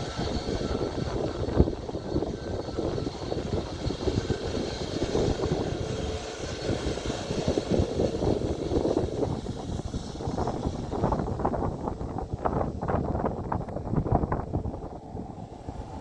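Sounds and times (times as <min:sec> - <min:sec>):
faint high whine: 0:00.0 - 0:16.0
jet engines running: 0:00.0 - 0:16.0
wind buffeting microphone: 0:00.0 - 0:16.0.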